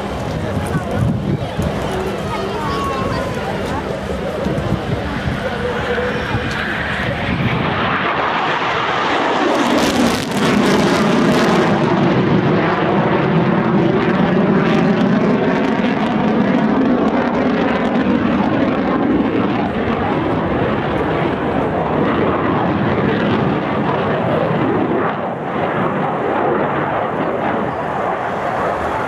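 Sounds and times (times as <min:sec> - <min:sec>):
jet engines flying past: 0:00.0 - 0:29.0.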